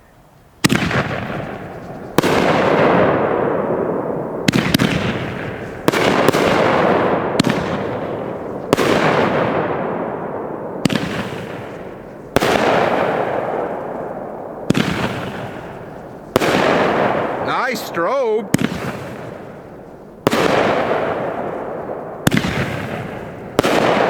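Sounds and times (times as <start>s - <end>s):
firework bangs: 0.6s - 24.0s.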